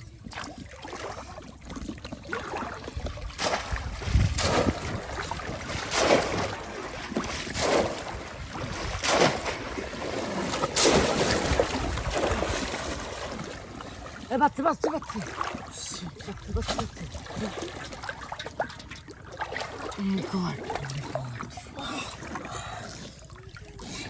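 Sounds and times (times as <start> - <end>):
water splashing in a pond: 0.0 - 24.0.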